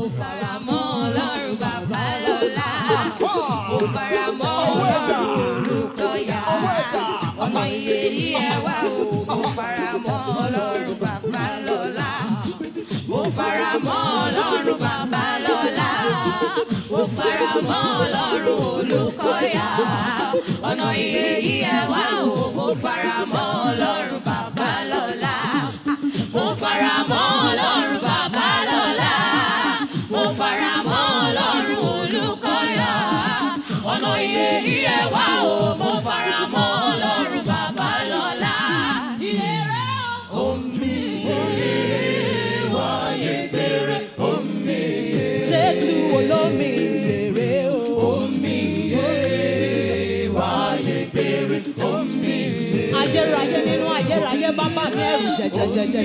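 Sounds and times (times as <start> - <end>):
gospel choir singing over beat: 0.0 - 56.0.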